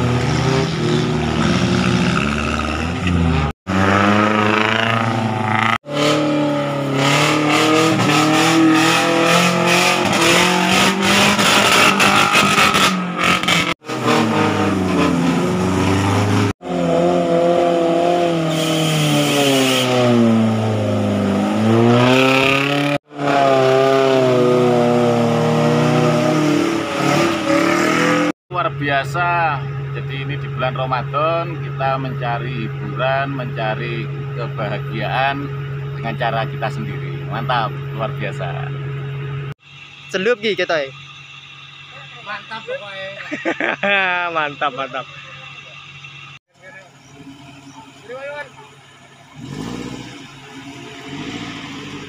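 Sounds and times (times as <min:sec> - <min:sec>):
off-road engines revving: 0:00.0 - 0:52.0.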